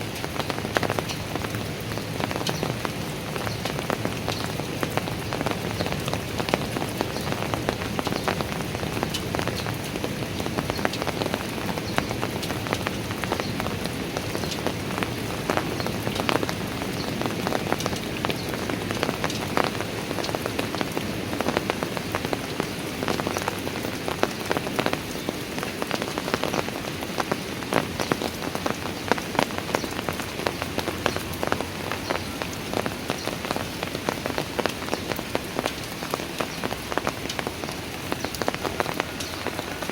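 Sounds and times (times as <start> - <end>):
rain falling on stone stairs: 0.0 - 39.9.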